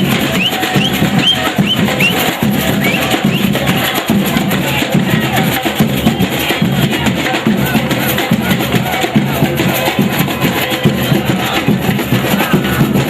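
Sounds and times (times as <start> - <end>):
samba drum ensemble: 0.0 - 13.0.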